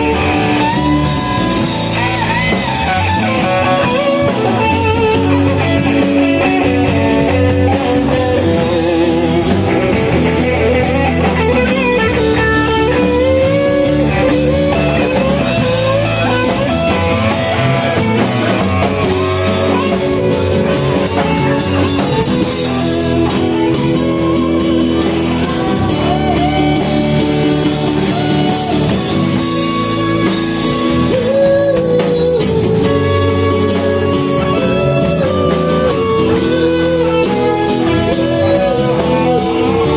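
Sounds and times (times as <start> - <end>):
live band playing blues-rock: 0.0 - 39.9.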